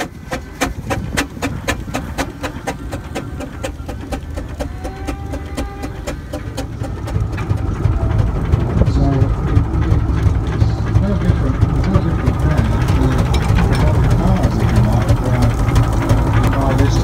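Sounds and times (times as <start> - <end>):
low rumble: 0.0 - 17.0
steam engine chuffing: 0.0 - 17.0.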